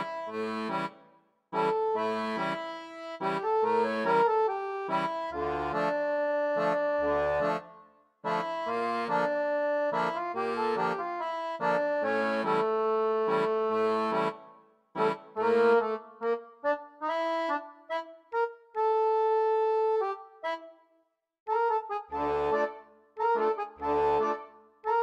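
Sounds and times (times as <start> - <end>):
reedy instrumental music: 0.0 - 1.0, 1.6 - 20.7, 21.5 - 25.0.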